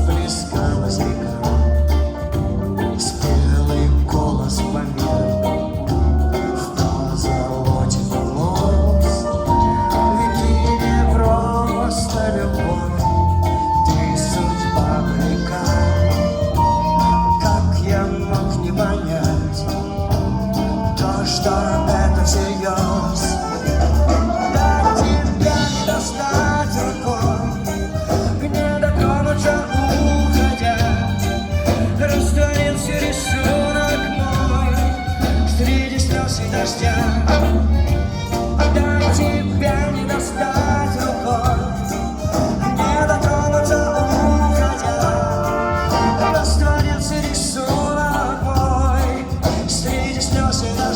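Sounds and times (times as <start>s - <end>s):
bass line: 0.0s - 50.9s
live band playing a song: 0.0s - 50.9s
steady drum beat: 0.0s - 50.9s.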